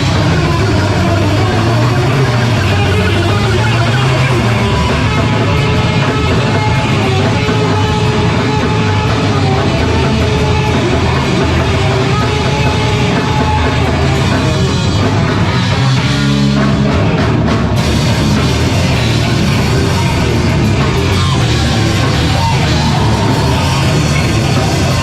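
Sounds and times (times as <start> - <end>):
bass guitar: 0.0 - 25.0
distorted electric guitars: 0.0 - 25.0
drum kit: 0.0 - 25.0.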